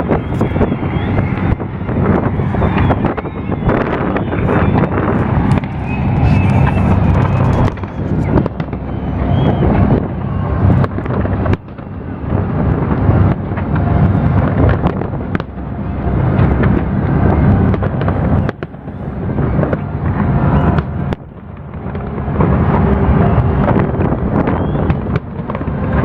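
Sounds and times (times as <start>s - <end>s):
deep rumble: 0.0s - 26.0s
fireworks booms and cracks: 0.0s - 26.0s.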